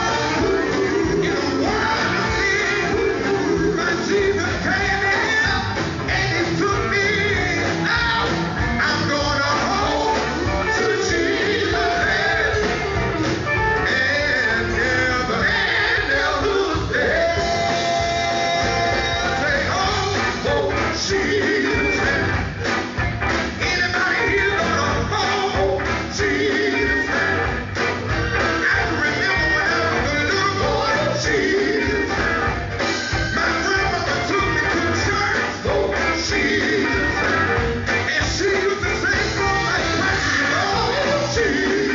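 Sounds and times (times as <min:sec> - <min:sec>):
people singing: 0:00.0 - 0:22.4, 0:23.6 - 0:27.5, 0:28.3 - 0:32.6, 0:33.2 - 0:41.9
band with guitar and beat: 0:00.0 - 0:41.9.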